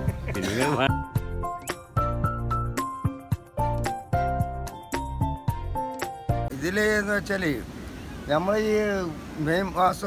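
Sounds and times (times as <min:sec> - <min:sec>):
background music melody: 0:00.0 - 0:08.2.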